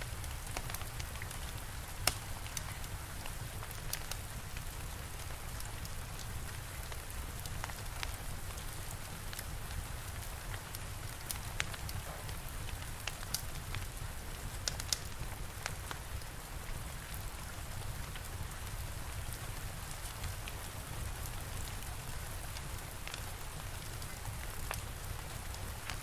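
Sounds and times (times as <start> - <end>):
steady rain: 0.0 - 26.0
fire crackling: 0.1 - 26.0.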